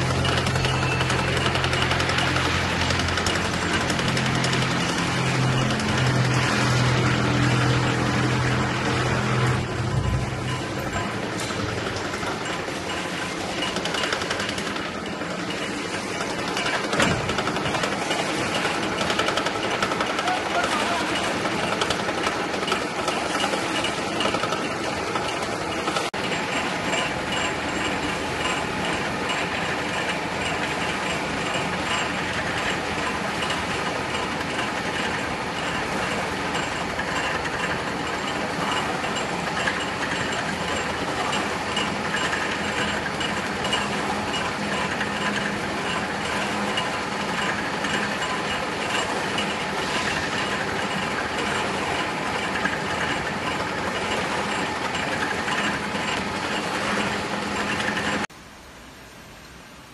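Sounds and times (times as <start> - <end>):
mixer paddles rattling: 0.0 - 58.3.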